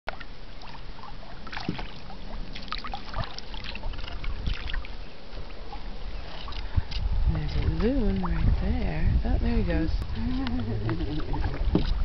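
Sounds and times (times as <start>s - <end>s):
steady low rumble: 0.1s - 12.0s
water splashing and trickling: 0.1s - 12.0s.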